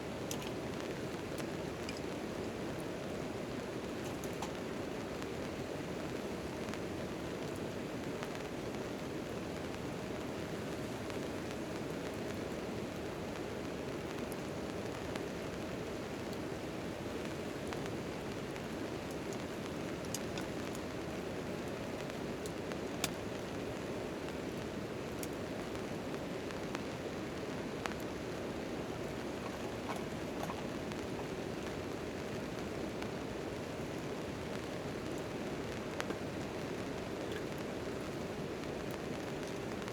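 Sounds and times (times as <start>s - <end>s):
rain falling on a tarp: 0.0s - 39.9s.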